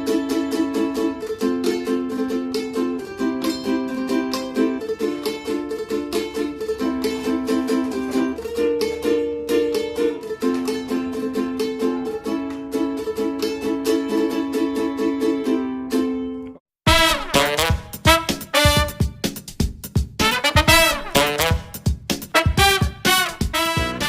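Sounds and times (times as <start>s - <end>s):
ukulele strumming in quick rhythm: 0.0s - 24.0s.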